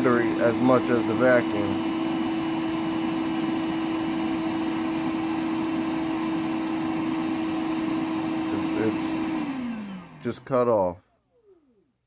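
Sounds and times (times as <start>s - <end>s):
wet dry vacuum running: 0.0s - 11.8s.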